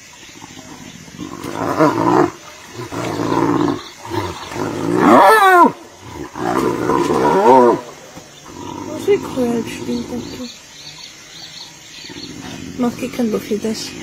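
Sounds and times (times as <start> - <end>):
hyenas growling: 0.4 - 14.0.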